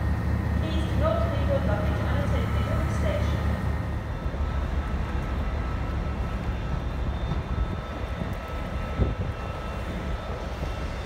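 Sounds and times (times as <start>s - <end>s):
train engines droning: 0.0s - 11.0s.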